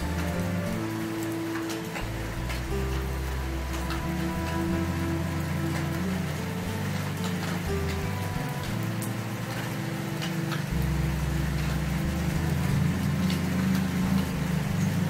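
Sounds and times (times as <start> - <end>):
low droning music: 0.0 - 15.0.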